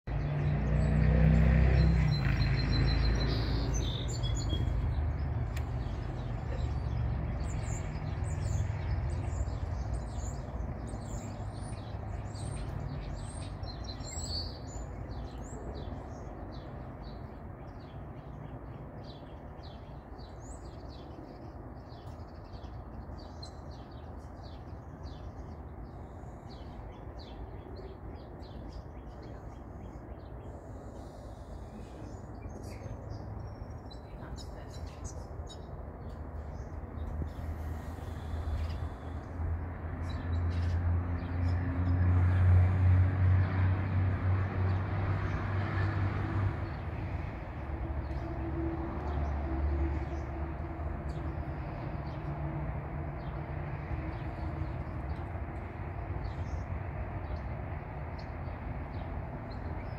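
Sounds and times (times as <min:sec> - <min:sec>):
small birds chirping: 0:00.1 - 0:42.7, 0:53.2 - 0:59.9.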